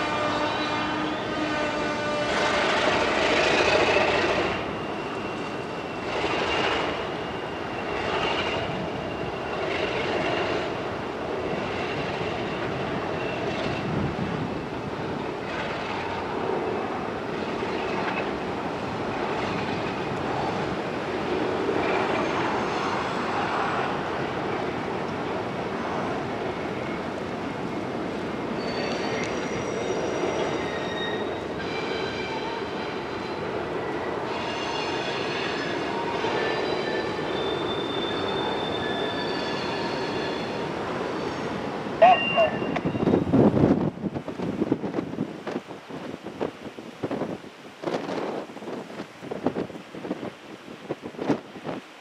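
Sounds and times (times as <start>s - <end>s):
wheels squealing on rails: 0.0s - 43.9s.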